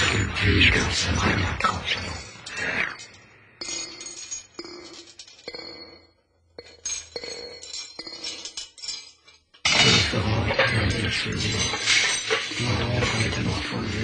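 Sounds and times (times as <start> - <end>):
ringing glass clinks: 2.0 - 13.5.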